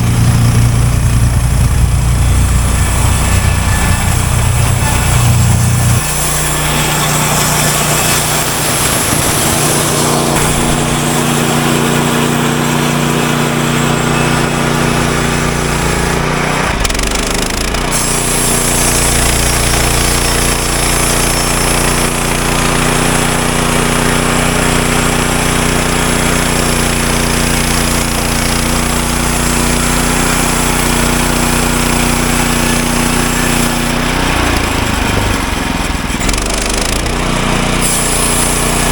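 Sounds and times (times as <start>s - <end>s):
sawmill gas engine running: 0.0s - 38.9s.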